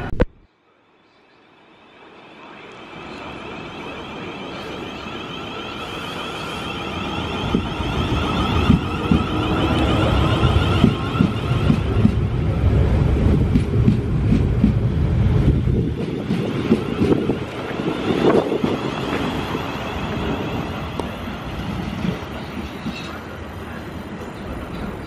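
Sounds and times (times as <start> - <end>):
electric train whining and rumbling: 1.0 - 25.0.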